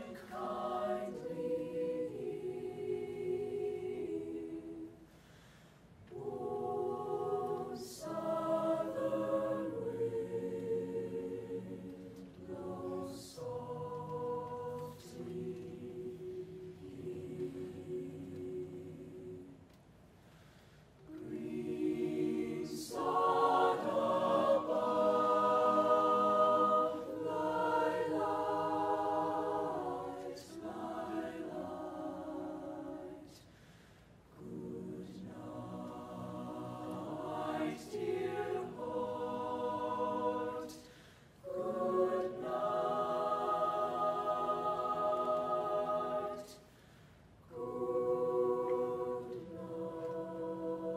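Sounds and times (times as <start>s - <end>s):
choir singing sustained chords: 0.0s - 50.9s.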